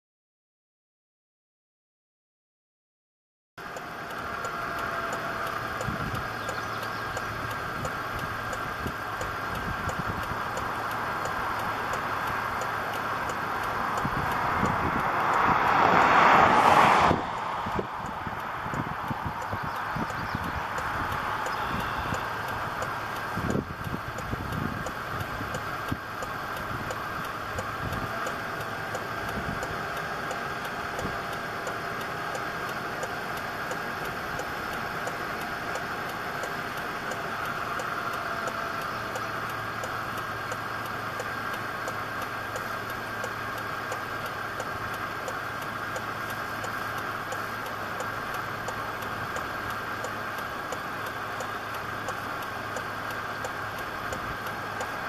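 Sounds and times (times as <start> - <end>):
steady engine-like running noise: 3.6 - 55.0.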